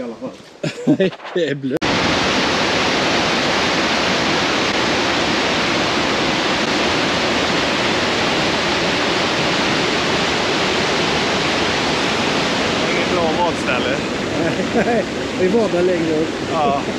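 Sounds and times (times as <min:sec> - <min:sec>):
river rapids rushing over rocks: 0:01.9 - 0:16.9.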